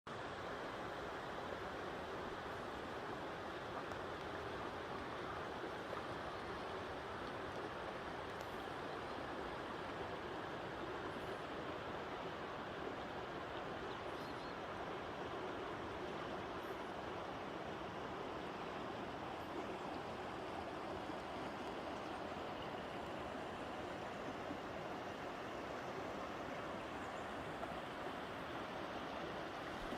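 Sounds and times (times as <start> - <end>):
stream rushing over rocks: 0.1 - 29.9.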